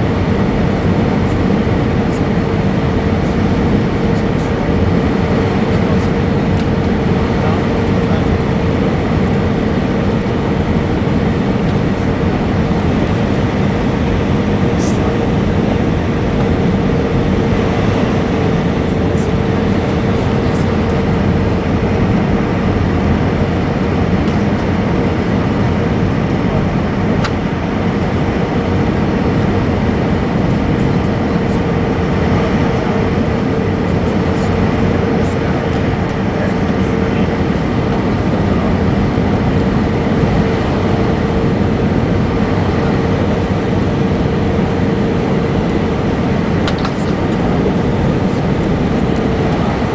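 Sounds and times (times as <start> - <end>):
airliner cabin engine rumble: 0.0 - 49.9
constant hum: 0.0 - 49.9.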